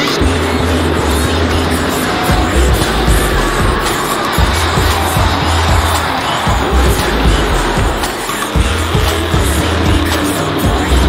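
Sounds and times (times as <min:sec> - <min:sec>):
arena music over loudspeakers: 0:00.0 - 0:11.0
truck engine revving: 0:00.0 - 0:11.0.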